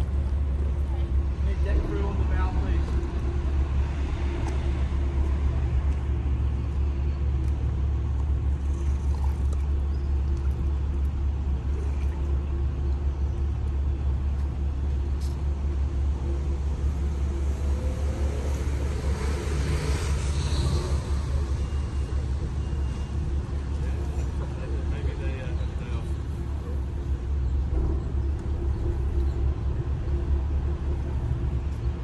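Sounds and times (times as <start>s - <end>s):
boat engines rumbling: 0.0s - 32.0s.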